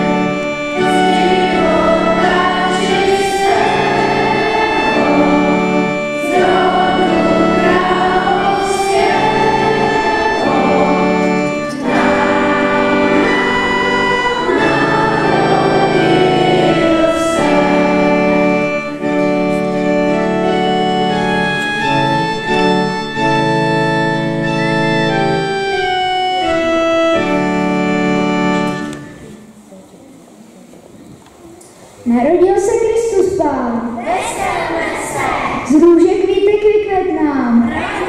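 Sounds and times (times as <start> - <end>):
organ keyboard chords: 0.0 - 29.8, 31.8 - 38.0.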